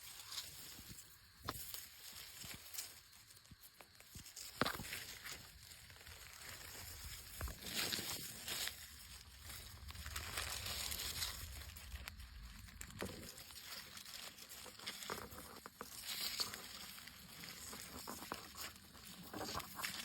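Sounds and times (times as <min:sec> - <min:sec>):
leaves and undergrowth rustling: 0:00.0 - 0:20.0
twigs cracking and snapping: 0:01.4 - 0:20.0.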